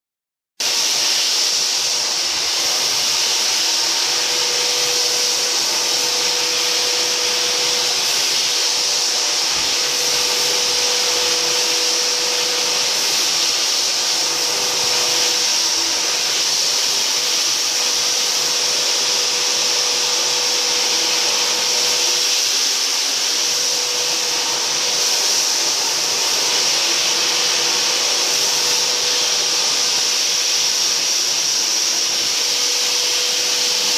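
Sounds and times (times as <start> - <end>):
floor sanding machine running: 0.6 - 33.9.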